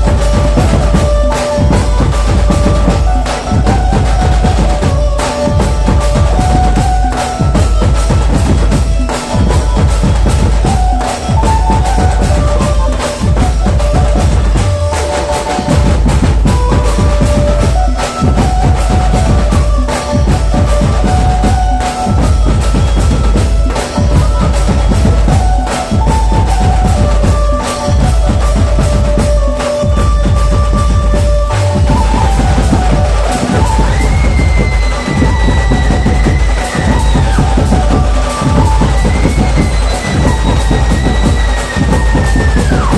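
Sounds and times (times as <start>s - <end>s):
deep bass drum: 0.0s - 42.9s
steady drum beat: 0.0s - 42.9s.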